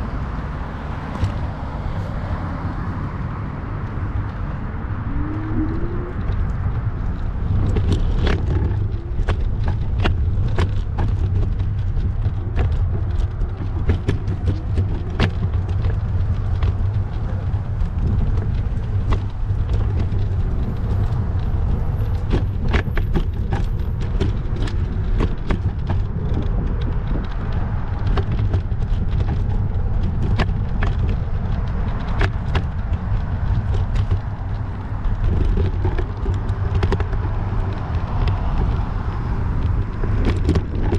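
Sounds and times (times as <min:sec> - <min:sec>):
wind rumble on microphone: 0:00.0 - 0:40.9
clicks and rattles: 0:05.1 - 0:40.9.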